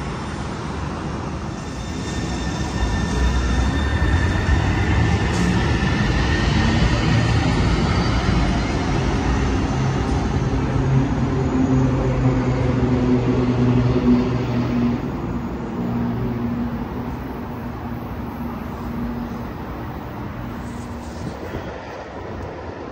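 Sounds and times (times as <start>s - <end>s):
wheels rumbling on rail: 0.0s - 22.9s.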